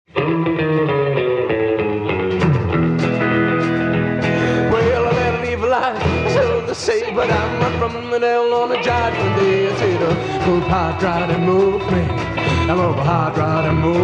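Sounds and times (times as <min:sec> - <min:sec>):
electric guitar bending notes: 0:00.1 - 0:14.0
rock band playing: 0:00.1 - 0:14.0.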